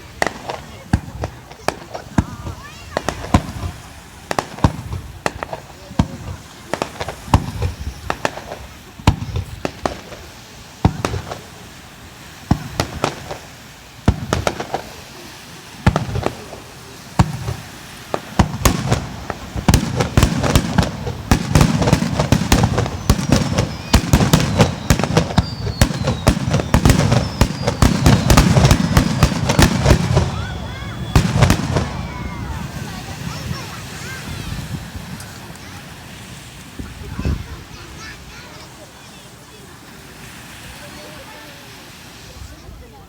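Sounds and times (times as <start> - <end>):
fireworks booming and crackling: 0.0 - 38.1.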